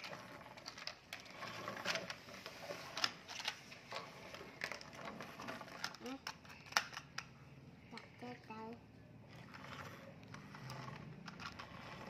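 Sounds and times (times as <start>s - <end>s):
plastic toys clicking and knocking: 0.0s - 8.6s, 9.4s - 12.0s.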